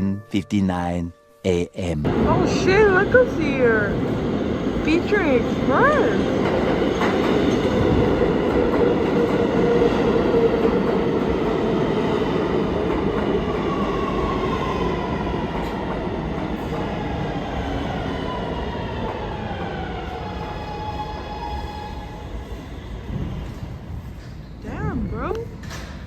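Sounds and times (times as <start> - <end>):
subway train rumbling on tracks: 1.9 - 26.0.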